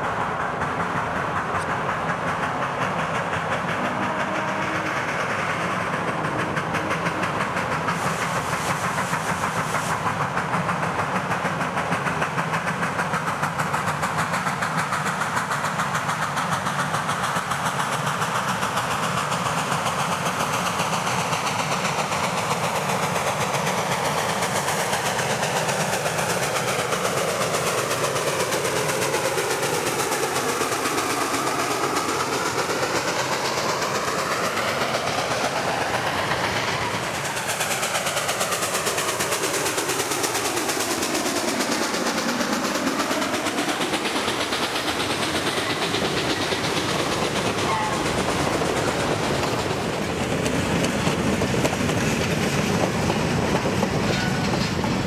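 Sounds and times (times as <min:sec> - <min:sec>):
steam locomotive chuffing: 0:00.0 - 0:55.0
train rumble: 0:00.0 - 0:55.0.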